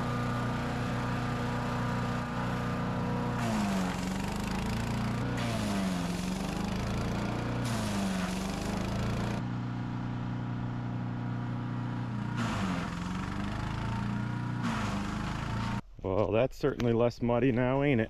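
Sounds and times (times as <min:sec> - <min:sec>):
grinding rush of wood chipping: 0:00.0 - 0:09.4, 0:10.1 - 0:15.8
wood chipper engine running: 0:00.0 - 0:15.8.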